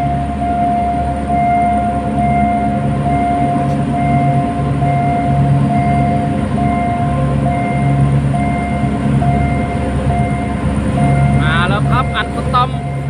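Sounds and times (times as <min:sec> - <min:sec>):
diesel locomotive rumble: 0:00.0 - 0:13.0
level crossing warning signal: 0:00.0 - 0:13.0.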